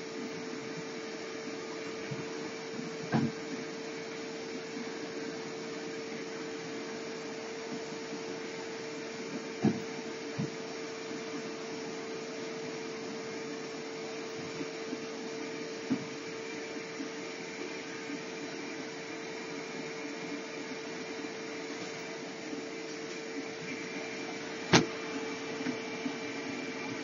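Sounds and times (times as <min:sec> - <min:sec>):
mechanical hum and hiss: 0:00.0 - 0:27.0.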